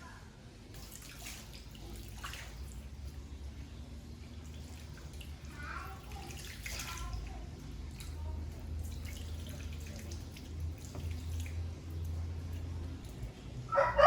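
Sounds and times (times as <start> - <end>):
low steady hum: 0.0 - 14.0
water dripping in a sink: 0.7 - 13.6.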